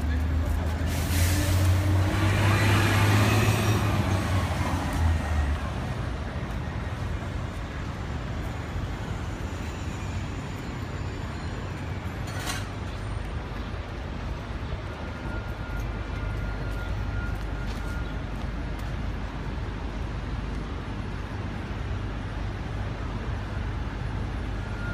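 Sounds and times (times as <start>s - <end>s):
street traffic noise: 0.0s - 24.9s.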